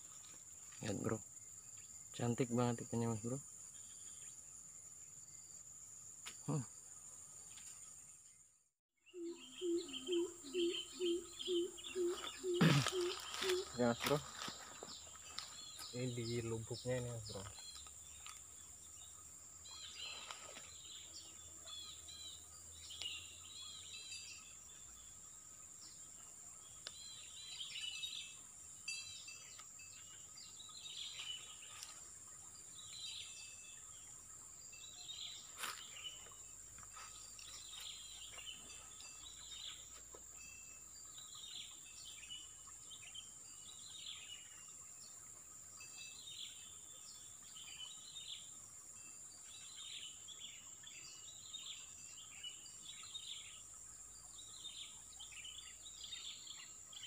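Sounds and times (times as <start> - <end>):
faint bird chirping: 0.0 - 57.0.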